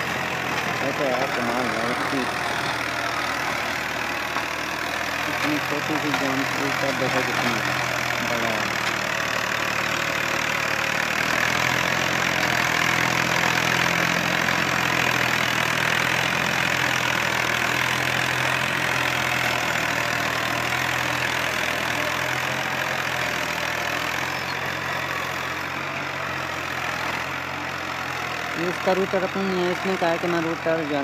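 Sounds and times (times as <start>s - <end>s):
rotary tiller churning soil: 0.0s - 31.0s
tractor diesel engine running: 0.0s - 31.0s.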